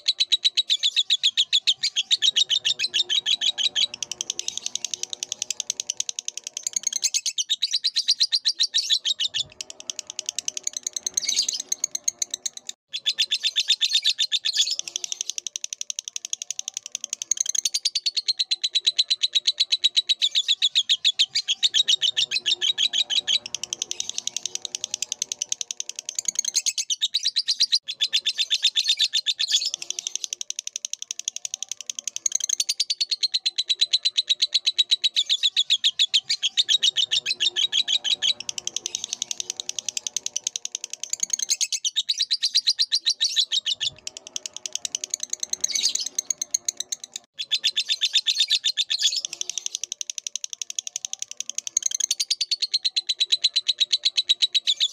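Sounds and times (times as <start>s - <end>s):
lovebird chattering trill: 0.0s - 54.9s.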